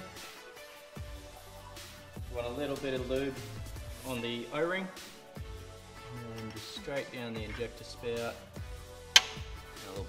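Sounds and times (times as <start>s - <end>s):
background music sustained tones: 0.0s - 10.0s.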